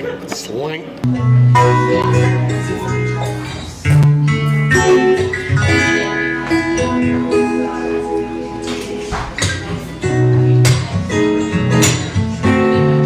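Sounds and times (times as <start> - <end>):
guitar music: 0.9 - 13.0.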